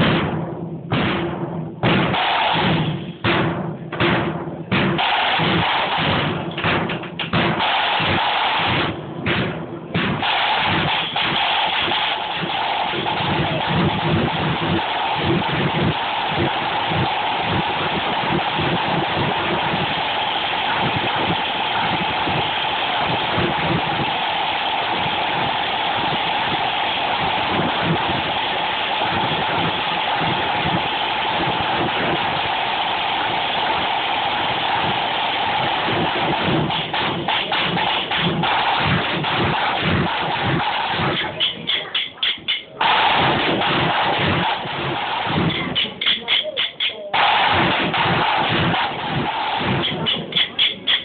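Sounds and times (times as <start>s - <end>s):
low drum beats: 0.0s - 51.0s
snare drum rolls: 0.0s - 51.0s.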